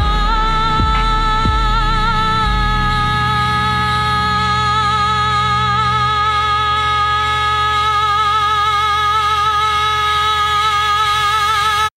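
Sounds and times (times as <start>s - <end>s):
low sustained drone: 0.0s - 11.9s.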